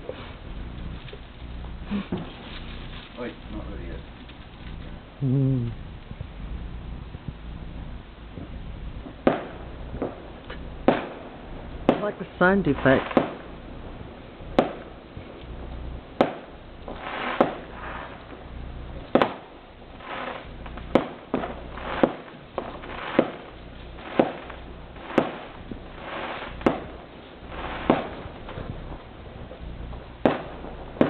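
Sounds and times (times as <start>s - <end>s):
fireworks bangs: 0.0s - 31.0s.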